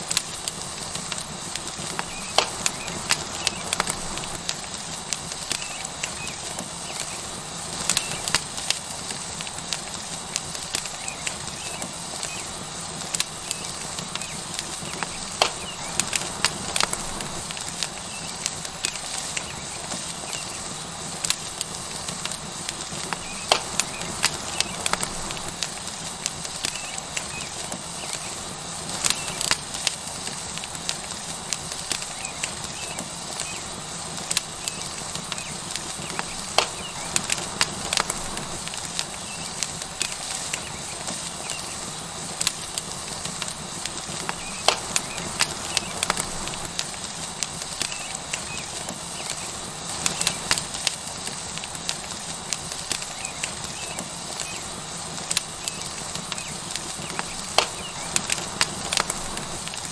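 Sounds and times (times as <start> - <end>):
steak sizzling on hot rock: 0.0 - 59.9
wood fire crackling and popping: 0.0 - 59.9.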